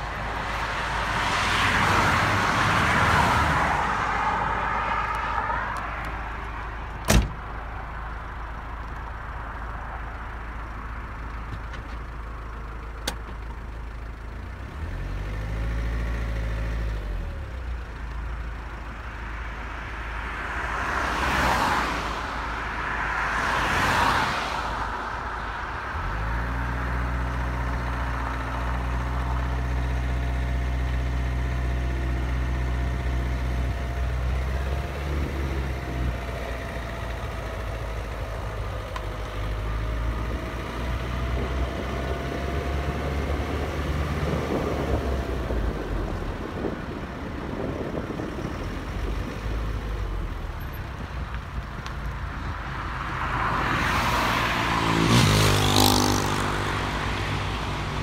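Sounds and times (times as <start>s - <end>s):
car engine running close by: 0.0s - 58.0s
cars passing on road: 0.0s - 58.0s.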